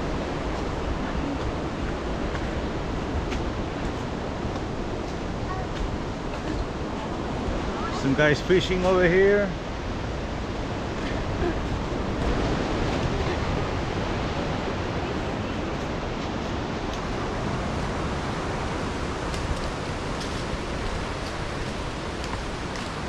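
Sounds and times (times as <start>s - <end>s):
ocean surf: 0.0s - 23.0s
wind: 0.0s - 23.0s.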